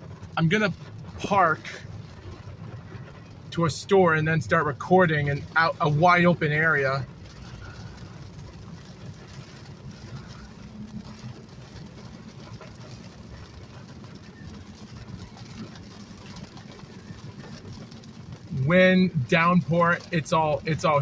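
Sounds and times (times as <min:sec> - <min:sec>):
car driving rumble: 0:00.0 - 0:21.0
rain and wind against car: 0:00.0 - 0:21.0.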